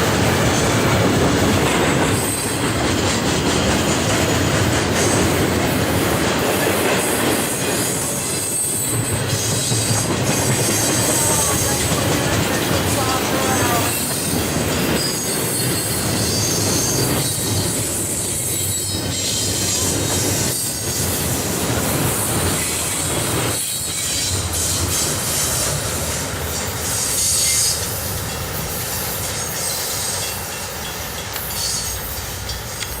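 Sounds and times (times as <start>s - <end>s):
freight train wheels rumbling: 0.0s - 33.0s
train wheels squealing: 2.1s - 2.8s, 6.6s - 33.0s.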